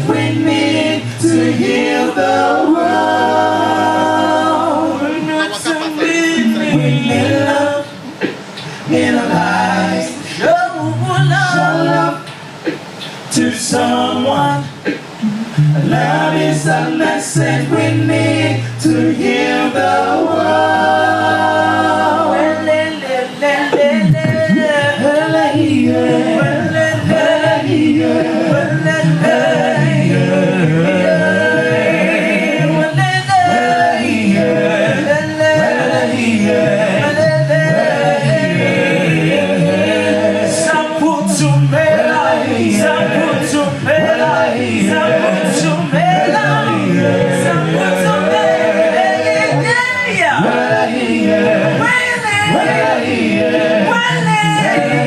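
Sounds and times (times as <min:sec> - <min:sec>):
a cappella group singing in harmony: 0:00.0 - 0:55.0.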